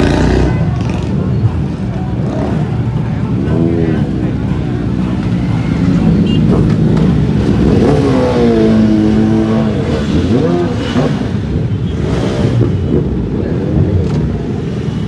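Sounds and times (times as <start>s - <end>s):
motorcycle engine revving: 0.0s - 15.0s
motorcycle engines running: 0.0s - 15.0s.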